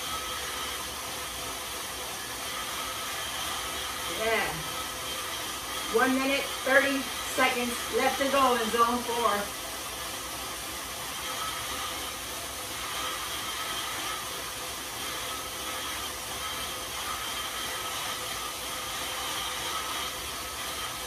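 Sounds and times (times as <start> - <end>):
bike tyres whirring on rollers: 0.0 - 21.0.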